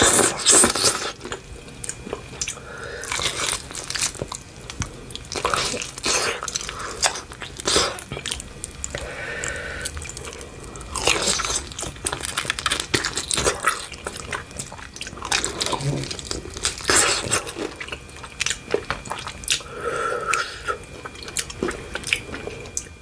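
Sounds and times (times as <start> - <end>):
crunchy chicken chewing: 0.0 - 23.0.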